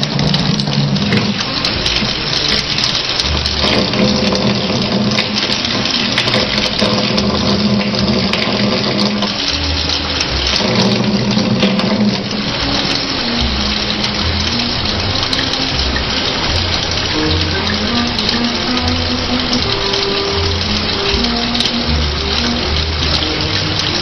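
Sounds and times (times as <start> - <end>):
music with low held notes: 0.0 - 24.0
tap water running into sink: 0.0 - 24.0.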